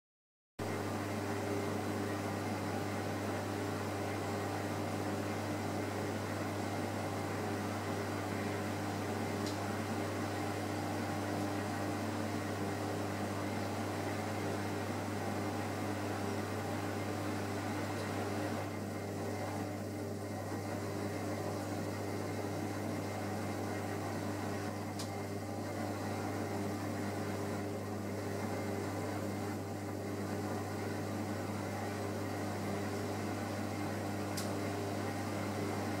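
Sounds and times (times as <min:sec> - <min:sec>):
aquarium equipment electrical hum: 0:00.6 - 0:36.0.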